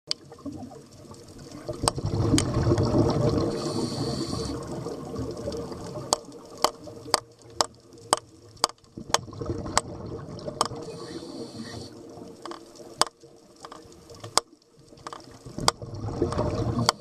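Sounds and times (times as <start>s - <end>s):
underwater rushing bubbling water: 0.2s - 17.0s.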